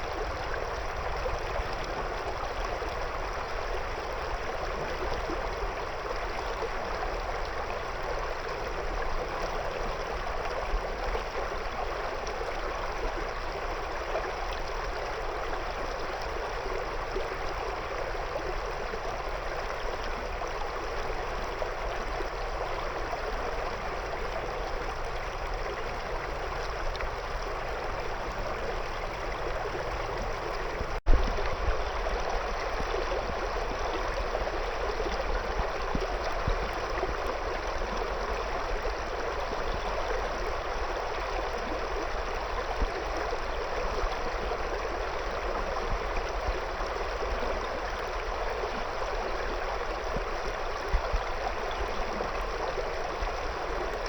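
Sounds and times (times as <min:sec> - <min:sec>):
river water gurgling over stones: 0:00.0 - 0:54.0.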